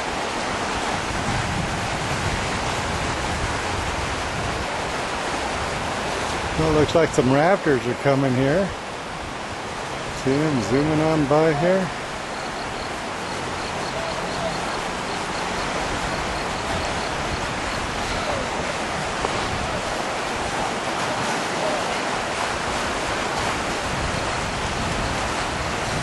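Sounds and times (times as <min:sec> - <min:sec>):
whitewater rushing: 0:00.0 - 0:26.0.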